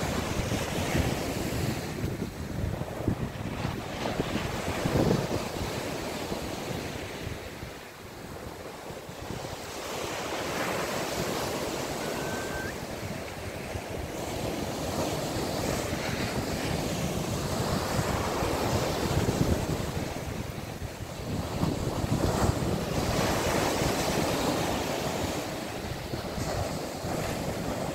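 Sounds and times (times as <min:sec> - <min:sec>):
waves breaking on beach: 0:00.0 - 0:27.9
wind buffeting microphone: 0:00.0 - 0:27.9.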